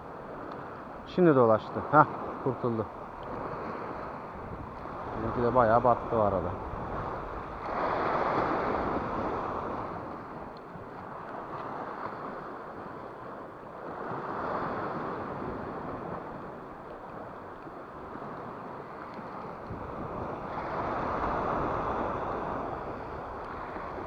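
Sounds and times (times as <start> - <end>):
waves washing against rocks: 0.2 - 24.0.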